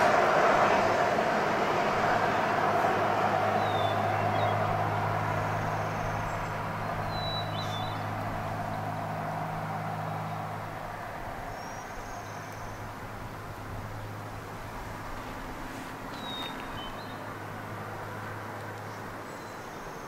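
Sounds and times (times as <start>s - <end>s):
vehicle engine humming: 0.0s - 19.9s
road noise: 0.0s - 20.0s.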